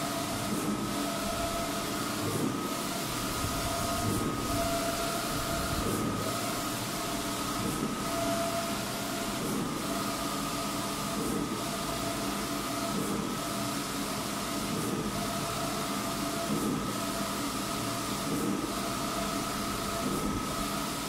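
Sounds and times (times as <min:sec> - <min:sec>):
print carriage whine: 0:00.0 - 0:21.0
printer mechanical hum: 0:00.0 - 0:21.0.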